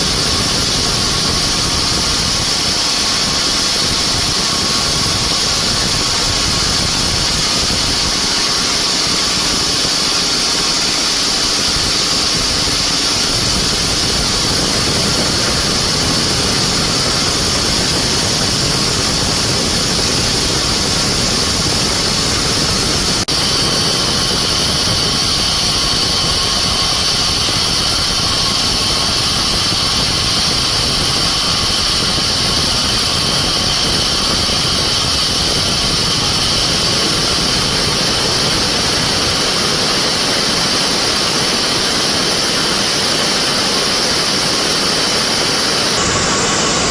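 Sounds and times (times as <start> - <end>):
high-pitched saw whine: 0.0 - 46.9
sawmill engine drone: 0.0 - 46.9.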